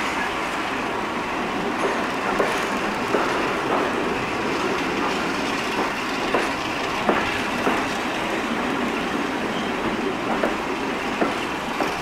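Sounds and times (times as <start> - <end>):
train wheels clacking over track joints: 1.5 - 12.0.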